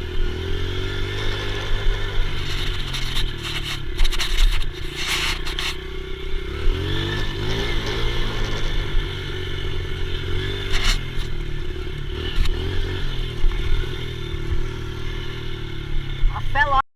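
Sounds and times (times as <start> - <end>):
dirt bike engine revving: 0.0 - 16.8.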